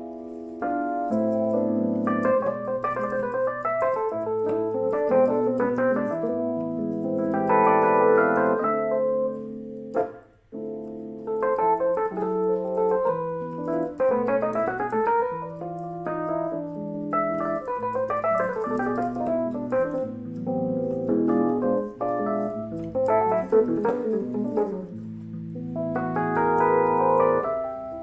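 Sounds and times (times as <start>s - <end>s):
keyboard playing chords and melody: 0.0s - 28.0s.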